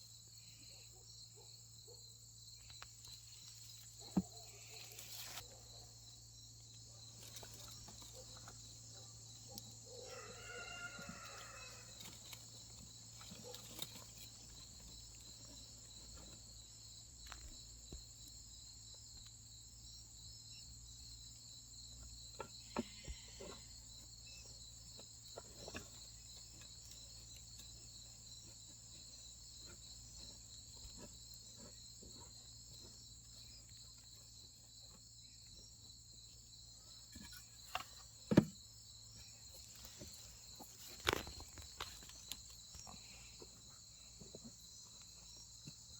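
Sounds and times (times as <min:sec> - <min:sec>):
crickets and insects chirping: 0:00.0 - 0:45.9.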